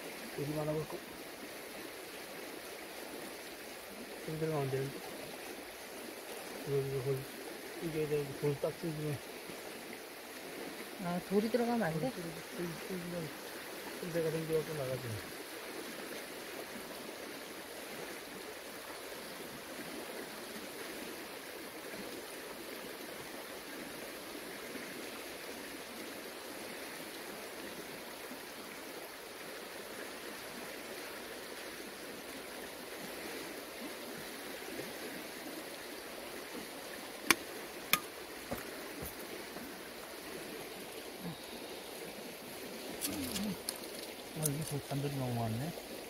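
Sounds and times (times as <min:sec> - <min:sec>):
running water: 0:00.0 - 0:46.0.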